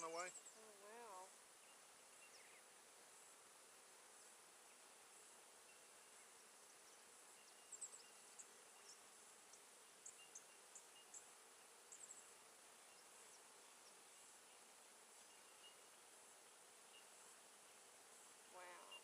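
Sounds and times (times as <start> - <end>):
bees humming: 0.0 - 19.0.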